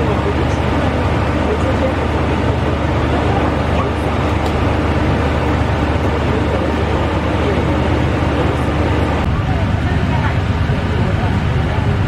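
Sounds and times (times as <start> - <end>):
train running rumble and hum: 0.0 - 12.0.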